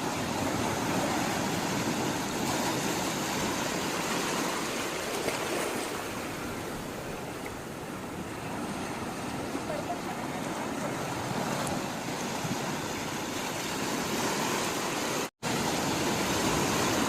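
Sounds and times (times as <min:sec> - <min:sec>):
sea water washing: 0:00.0 - 0:17.0.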